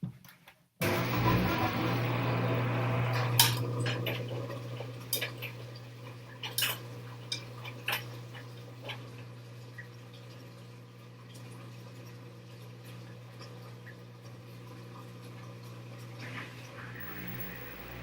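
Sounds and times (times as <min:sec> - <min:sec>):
washing machine humming: 0:00.8 - 0:18.0.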